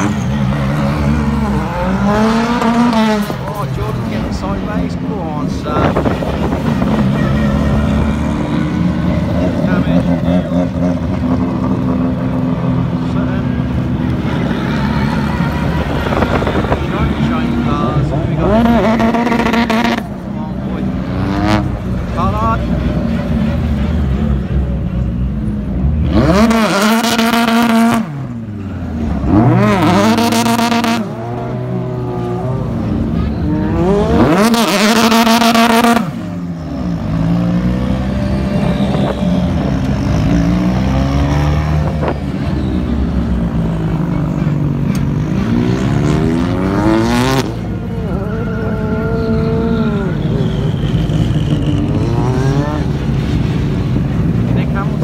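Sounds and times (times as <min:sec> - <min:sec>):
racing cars passing: 0:00.0 - 0:55.0.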